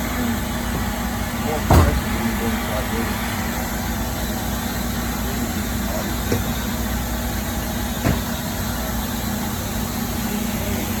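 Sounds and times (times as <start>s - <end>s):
machine running with low hum: 0.0s - 11.0s.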